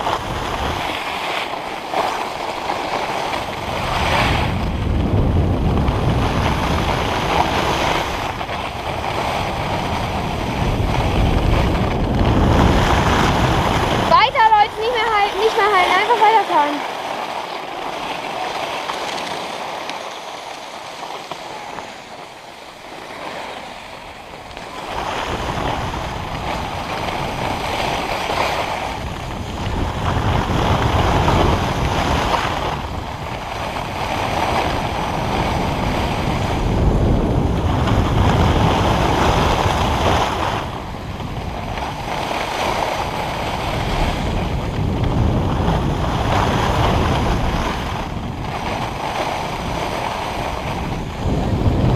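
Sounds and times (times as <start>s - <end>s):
skis scraping over snow: 0.0s - 51.9s
wind rumbling on microphone: 0.0s - 51.9s.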